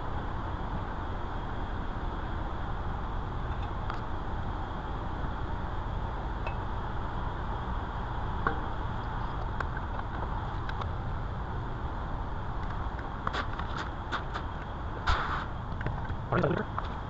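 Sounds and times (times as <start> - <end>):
low background rumble and hiss: 0.0 - 17.0.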